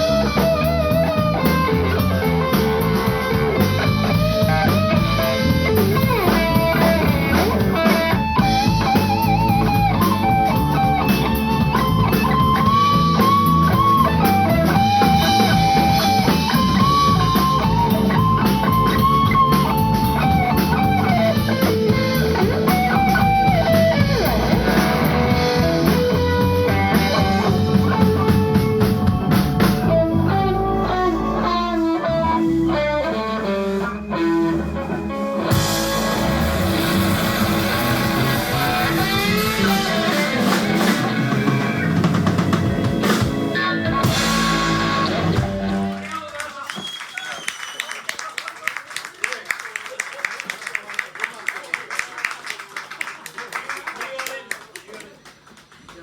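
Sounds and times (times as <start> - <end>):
bass guitar: 0.0 - 46.1
drum kit: 0.0 - 46.1
electric guitar lead: 0.0 - 46.1.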